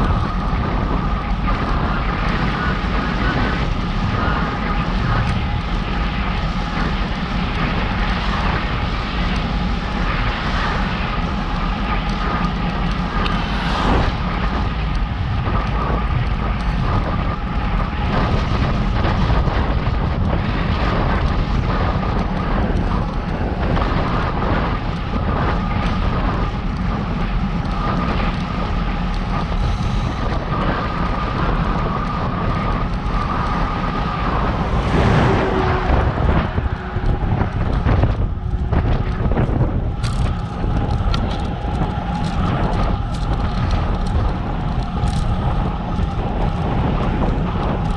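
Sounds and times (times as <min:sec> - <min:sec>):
road noise: 0:00.0 - 0:47.9
wind buffeting microphone: 0:00.0 - 0:47.9.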